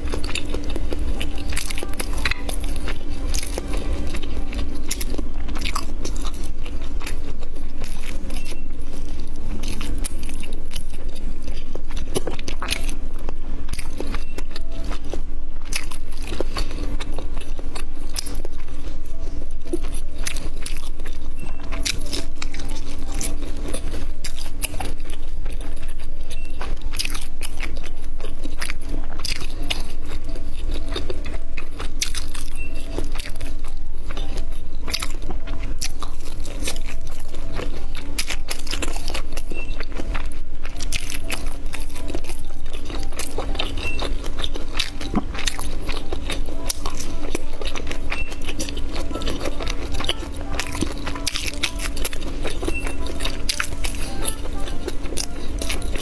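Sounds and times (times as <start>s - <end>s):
chewing sausages: 0.0s - 56.0s.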